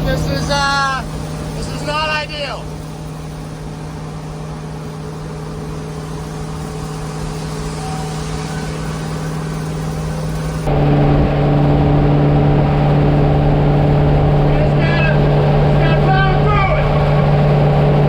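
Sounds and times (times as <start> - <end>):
engine running with steady drone: 0.0 - 18.0.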